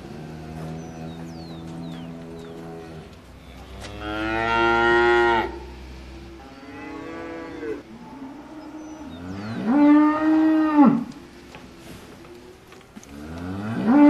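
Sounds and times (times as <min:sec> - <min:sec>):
cattle mooing: 0:00.0 - 0:11.2, 0:11.9 - 0:14.0.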